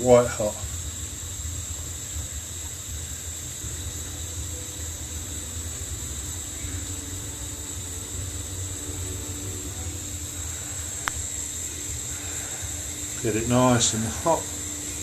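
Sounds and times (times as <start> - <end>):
gas burner roaring: 0.0 - 15.0.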